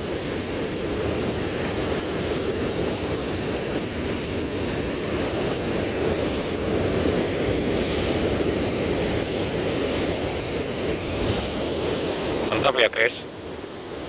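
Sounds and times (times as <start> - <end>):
surf breaking on beach: 0.0 - 14.0
wind on microphone: 0.0 - 14.0.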